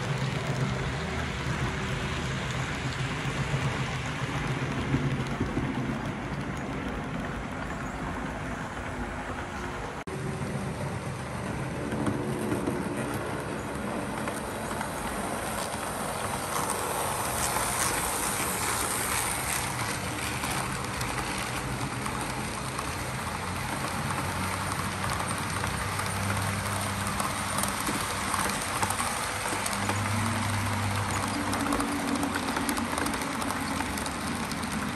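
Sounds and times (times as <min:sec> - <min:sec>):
model train wheels on rails: 0:00.0 - 0:34.9.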